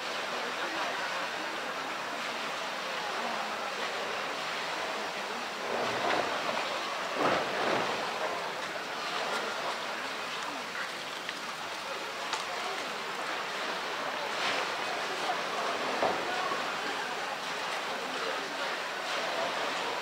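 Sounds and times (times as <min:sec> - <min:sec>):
water sloshing and splashing: 0:00.1 - 0:20.0.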